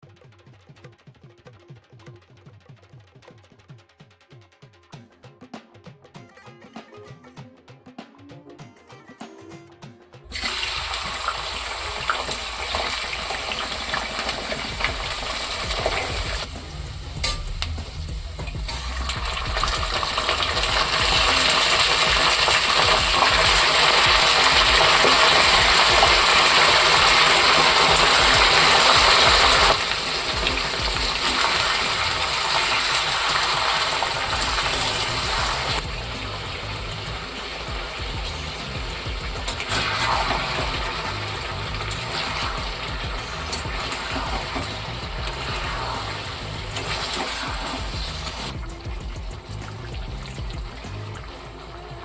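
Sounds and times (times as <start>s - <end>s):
tap water running into sink: 10.3s - 52.0s.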